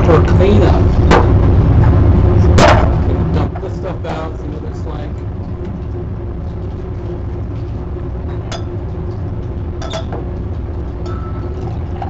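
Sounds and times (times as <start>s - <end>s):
fume hood exhaust rumble: 0.0s - 12.0s.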